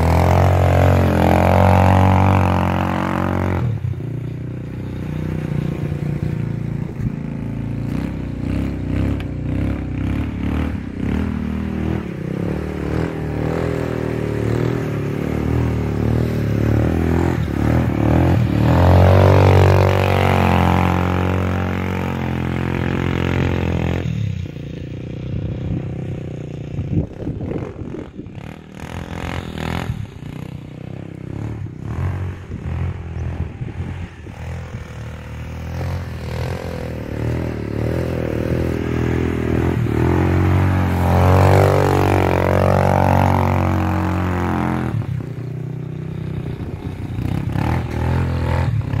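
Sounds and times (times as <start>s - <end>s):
quad bike engine revving: 0.0s - 49.0s.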